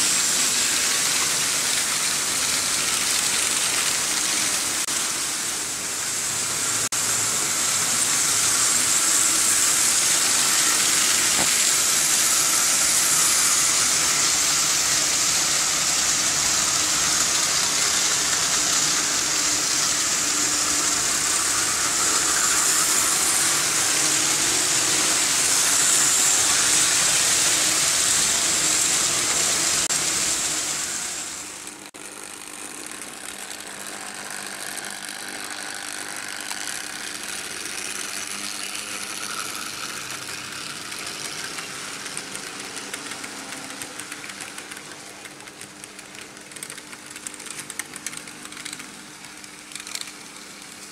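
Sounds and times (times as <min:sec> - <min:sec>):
model train wheels rattling on rails: 0:00.0 - 0:50.9.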